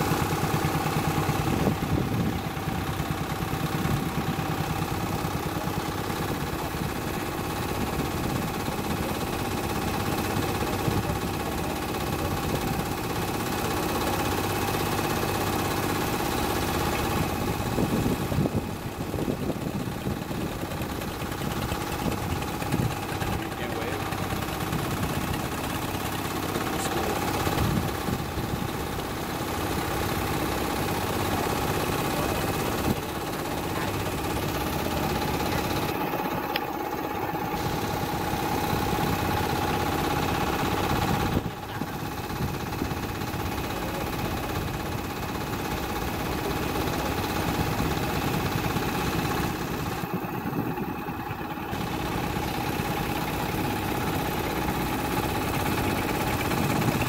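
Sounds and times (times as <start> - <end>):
boat engine droning and whining: 0.0 - 57.0.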